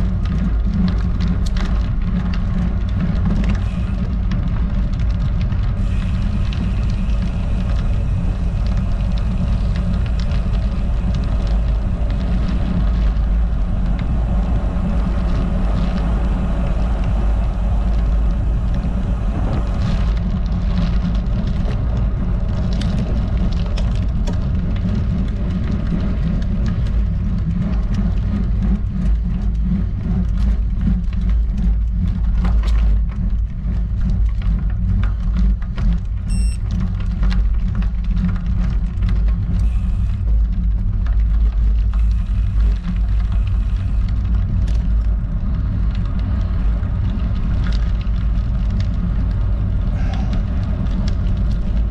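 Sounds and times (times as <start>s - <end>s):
wind and road rumble: 0.0s - 51.9s.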